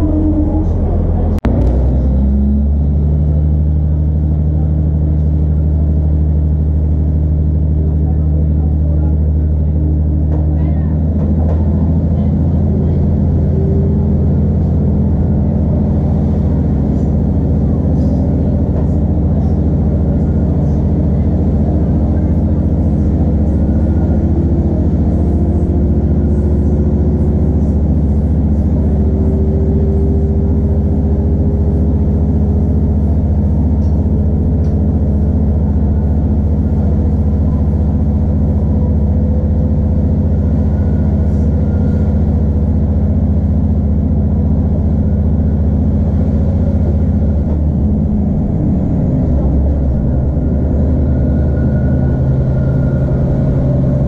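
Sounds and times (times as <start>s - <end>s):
rising engine whine: 0.0s - 54.0s
train diesel engine under power: 0.0s - 54.0s.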